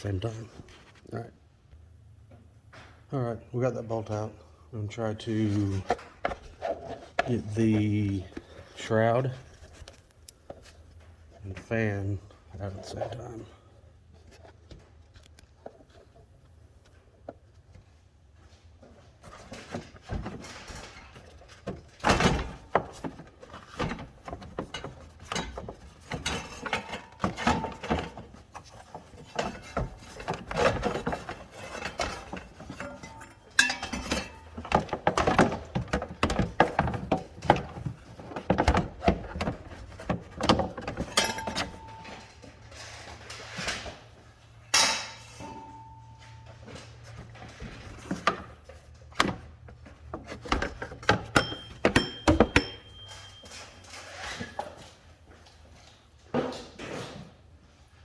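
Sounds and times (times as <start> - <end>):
knocks and clatters of plastic parts: 5.4 - 13.4, 18.6 - 57.2.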